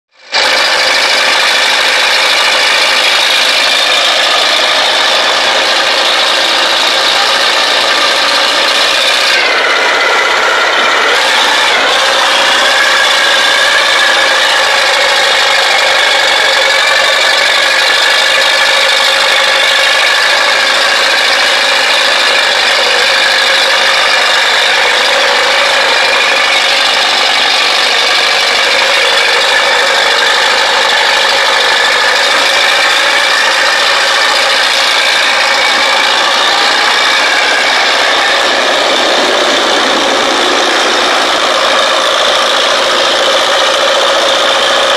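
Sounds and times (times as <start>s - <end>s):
tractor engines running under load: 0.0s - 44.9s.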